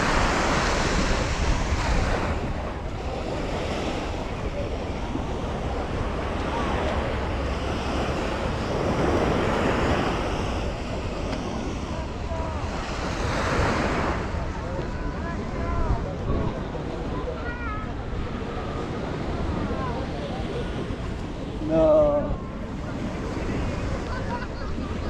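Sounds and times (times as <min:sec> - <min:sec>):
sea waves breaking on beach: 0:00.0 - 0:25.0
wind rumble on microphone: 0:00.0 - 0:25.0.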